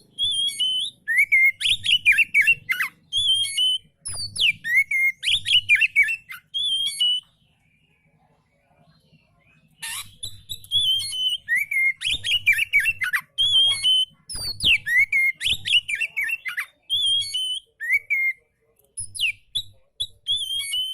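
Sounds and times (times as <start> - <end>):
bird singing whistled phrases: 0.0 - 7.3, 9.5 - 18.4, 19.0 - 20.9.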